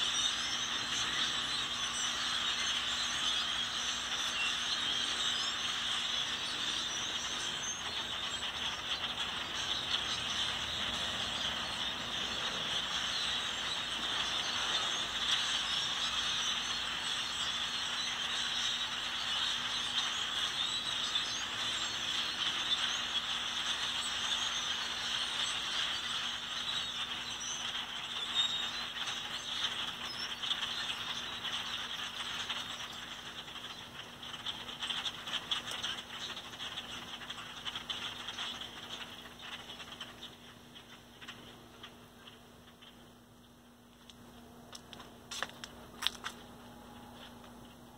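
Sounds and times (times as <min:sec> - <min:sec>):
flock of birds chattering: 0:00.0 - 0:47.9.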